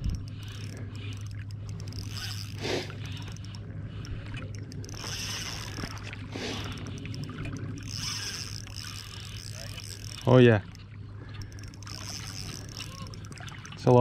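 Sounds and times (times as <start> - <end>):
fishing reel whirring: 0.0 - 14.0
low hum: 0.0 - 14.0.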